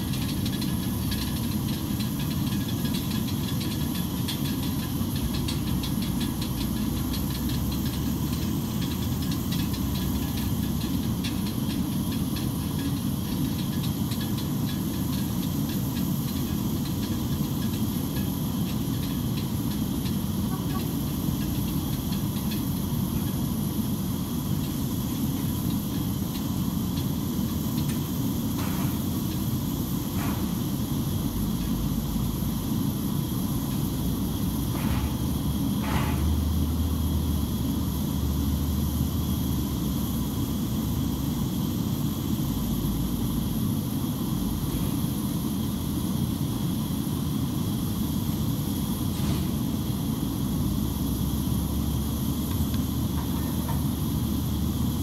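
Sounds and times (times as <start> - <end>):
machinery rumble and hiss: 0.0 - 55.0.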